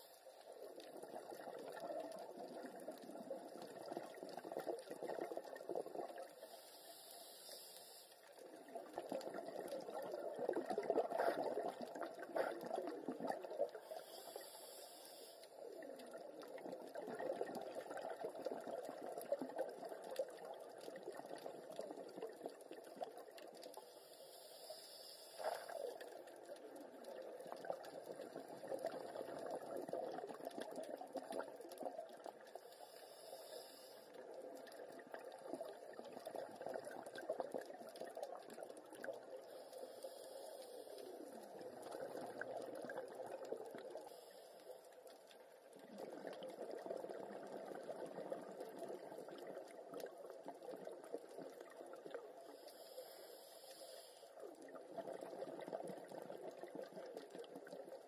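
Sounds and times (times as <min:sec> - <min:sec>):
underwater bubbling: 0:00.0 - 0:58.0.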